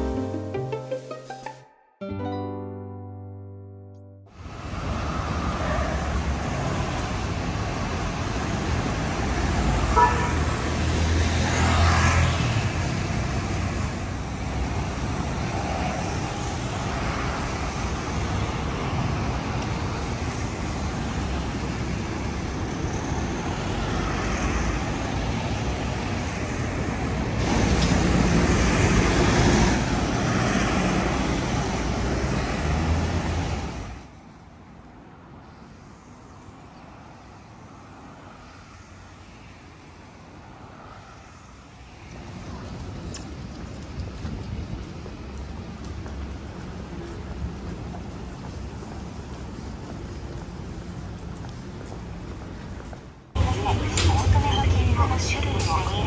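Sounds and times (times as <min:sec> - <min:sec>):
road traffic rumbling hum: 0:02.4 - 0:56.0.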